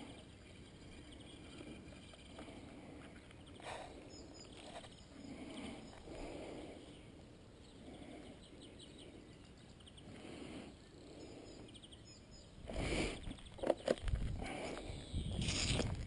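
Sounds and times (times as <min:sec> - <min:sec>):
faint bird chirps: 0:00.0 - 0:13.9
low outdoor noise: 0:00.0 - 0:16.0.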